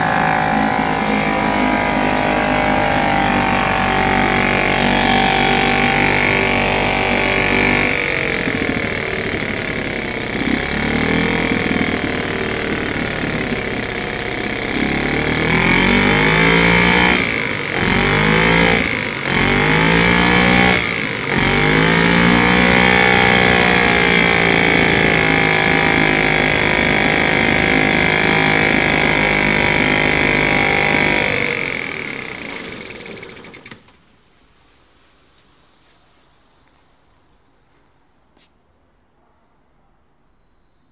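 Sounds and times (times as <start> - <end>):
two-stroke outboard motor running: 0.0 - 33.8.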